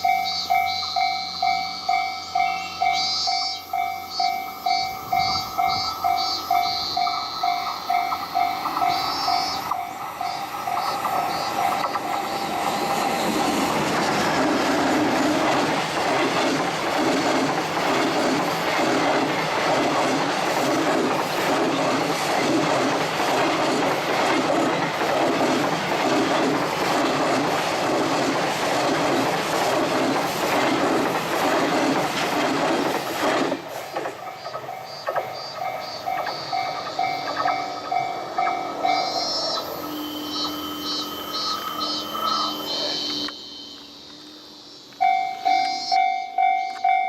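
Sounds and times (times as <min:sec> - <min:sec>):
crossing warning bell ringing: 0:00.0 - 0:26.1, 0:34.1 - 0:44.2, 0:44.8 - 0:47.0
train wheel rumble: 0:00.0 - 0:47.0
wheels clacking over rail joints: 0:05.2 - 0:43.3.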